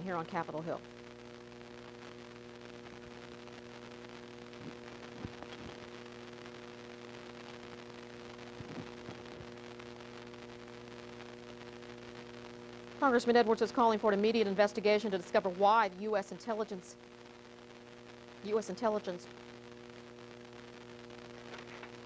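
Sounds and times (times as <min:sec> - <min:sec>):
background hiss: 0:00.0 - 0:22.0
electrical mains hum: 0:00.0 - 0:22.0.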